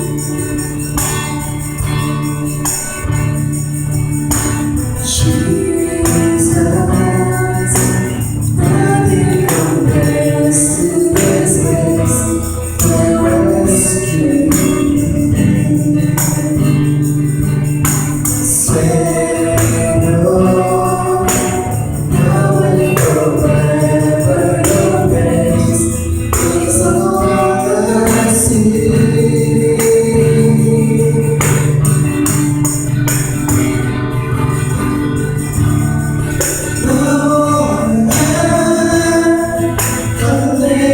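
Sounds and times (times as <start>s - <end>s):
gospel band playing: 0.0s - 40.9s
people singing: 0.0s - 40.9s
steady bass: 0.0s - 40.9s
tambourine shaken: 0.0s - 40.9s.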